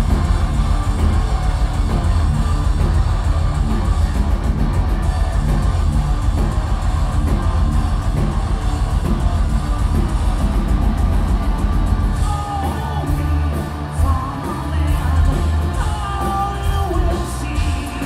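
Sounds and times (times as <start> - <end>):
live heavy metal band: 0.0 - 18.0.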